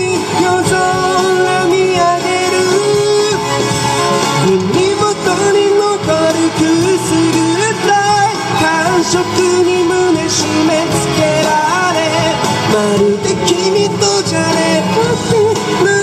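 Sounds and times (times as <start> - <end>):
electric guitar strumming: 0.0 - 16.0
man singing: 0.0 - 16.0.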